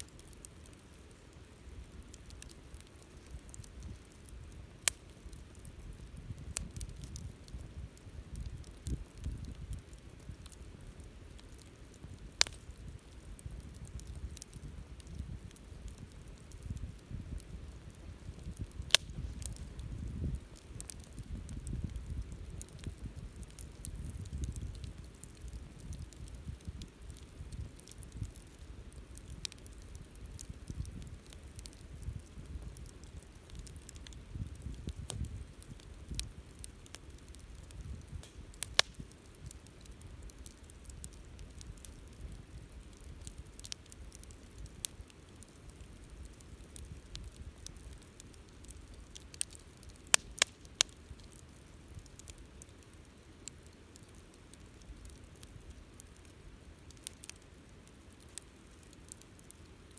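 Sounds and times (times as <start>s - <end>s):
campfire flames rumbling: 0.0s - 59.9s
fire crackling: 0.0s - 59.9s
sharp pops from fire: 0.0s - 59.9s.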